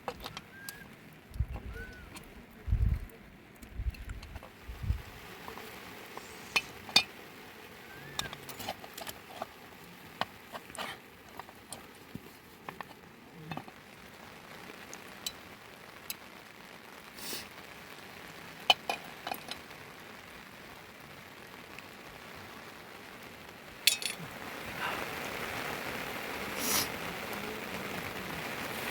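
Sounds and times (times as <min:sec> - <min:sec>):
faint hiss: 0:00.0 - 0:28.9.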